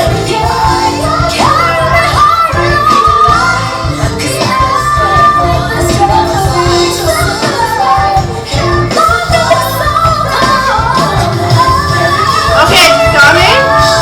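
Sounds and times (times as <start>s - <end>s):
band accompaniment: 0.0s - 14.0s
woman singing pop ballad: 0.0s - 14.0s.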